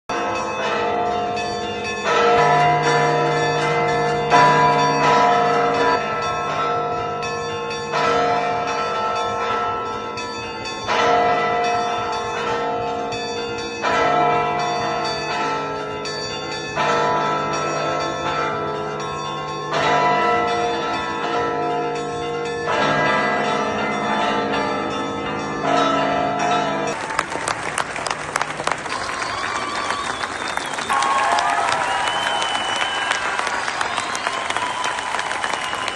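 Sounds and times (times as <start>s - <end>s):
church bells ringing: 0.1s - 29.1s.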